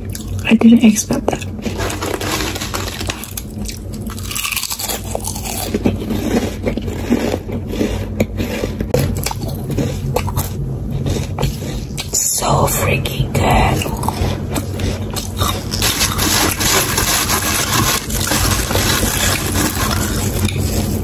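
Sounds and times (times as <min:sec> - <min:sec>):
potato chips crunching: 0:00.0 - 0:10.6, 0:13.8 - 0:21.0.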